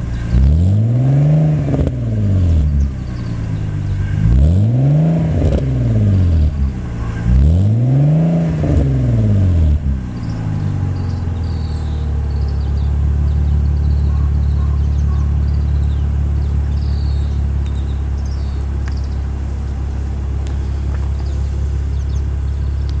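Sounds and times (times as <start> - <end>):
car engine idling: 0.0 - 23.0
car engine revving: 0.0 - 23.0.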